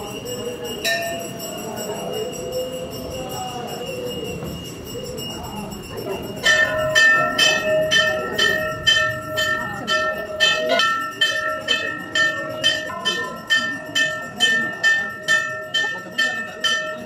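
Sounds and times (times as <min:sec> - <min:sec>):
large temple bell ringing: 0:00.0 - 0:17.0
murmur of voices: 0:00.0 - 0:17.0.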